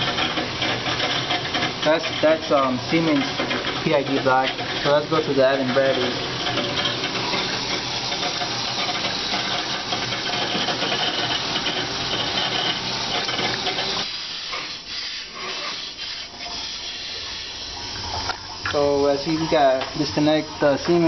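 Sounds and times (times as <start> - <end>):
water rushing through pipes: 0.0 - 21.0.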